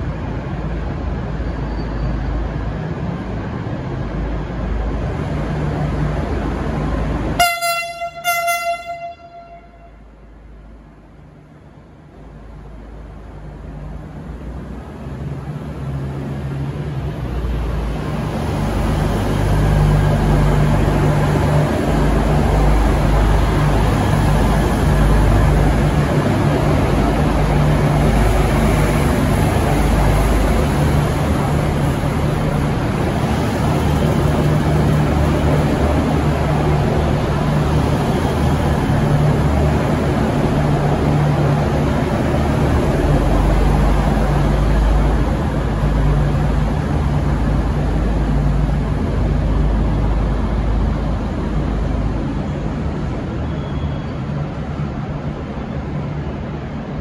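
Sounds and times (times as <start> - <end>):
diesel train engines droning: 0.0 - 57.0
train wheel and rail noise: 0.0 - 57.0.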